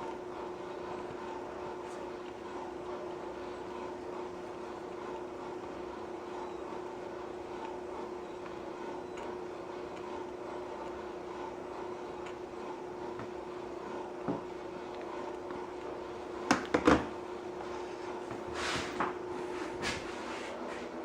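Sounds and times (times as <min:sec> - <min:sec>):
stove burning hiss: 0:00.0 - 0:21.0.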